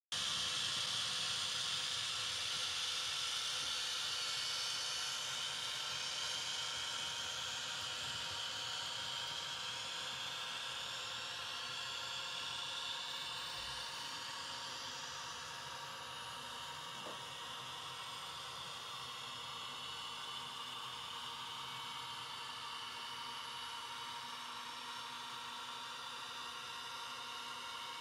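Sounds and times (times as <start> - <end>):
model train high whine: 0.2 - 28.0.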